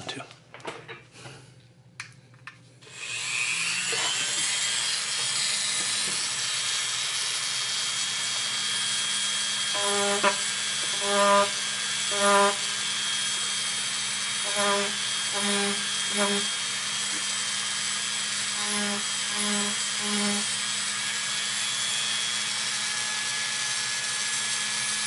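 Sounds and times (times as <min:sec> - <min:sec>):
rotary tool whining: 0:02.8 - 0:25.0.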